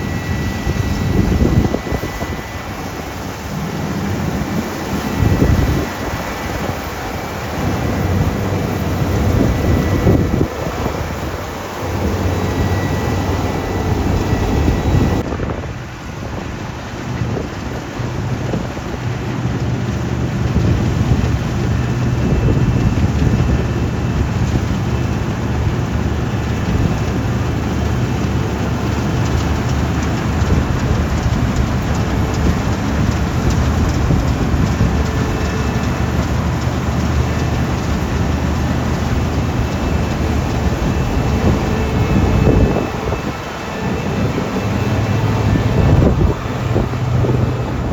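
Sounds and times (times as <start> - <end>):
diesel engine drone: 0.0 - 47.9.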